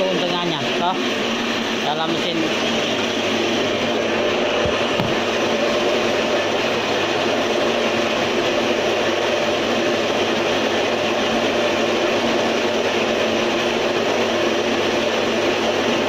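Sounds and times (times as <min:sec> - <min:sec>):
electric motor humming and rattling: 0:00.0 - 0:16.0.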